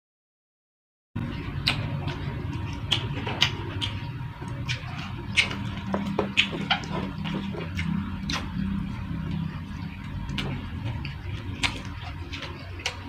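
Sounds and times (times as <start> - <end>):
person chewing food: 1.3 - 13.0.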